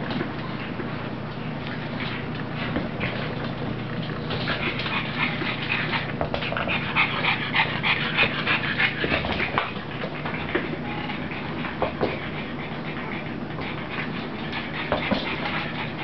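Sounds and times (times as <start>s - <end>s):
dog panting: 1.7s - 16.0s.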